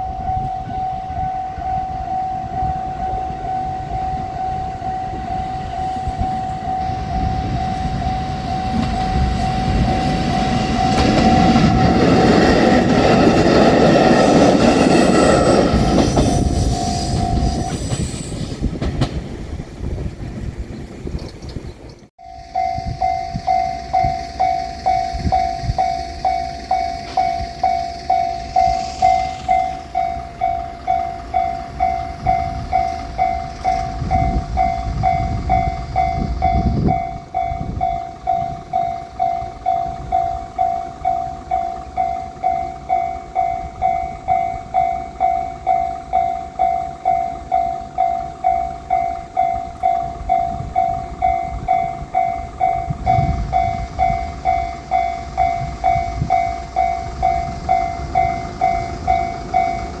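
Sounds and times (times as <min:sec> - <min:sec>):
crossing alarm electronic bell: 0:00.0 - 0:18.5, 0:22.2 - 1:00.0
train rumbling past: 0:00.0 - 1:00.0.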